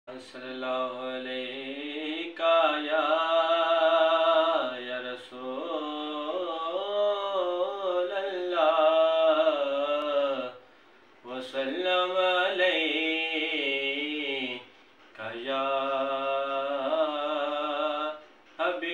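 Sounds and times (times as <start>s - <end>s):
man chanting: 0.1s - 10.6s, 11.2s - 18.9s.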